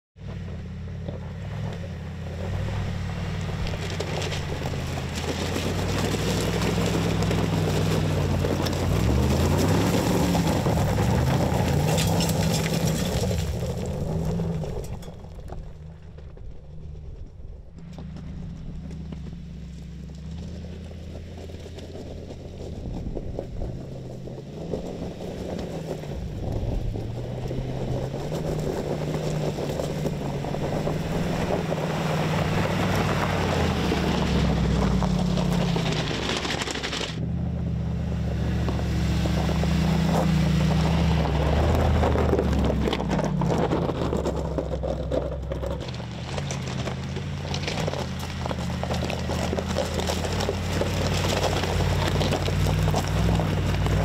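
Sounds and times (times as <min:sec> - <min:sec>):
engine revving uphill: 0:00.0 - 0:54.0
tyres crunching gravel: 0:00.2 - 0:54.0.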